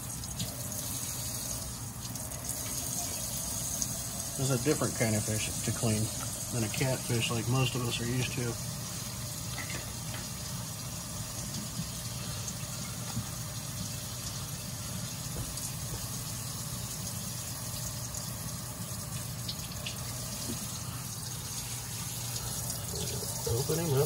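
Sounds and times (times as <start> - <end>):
faucet running into metal sink: 0.0 - 24.0
fish being rinsed by hand: 0.0 - 24.0.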